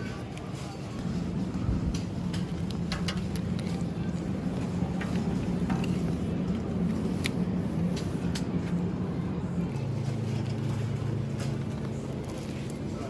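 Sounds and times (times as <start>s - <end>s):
vehicle engine humming: 1.0s - 13.0s.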